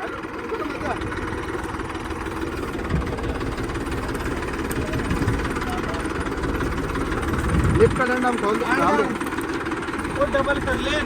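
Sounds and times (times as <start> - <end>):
vehicle engine idling with knocking: 0.0 - 11.0.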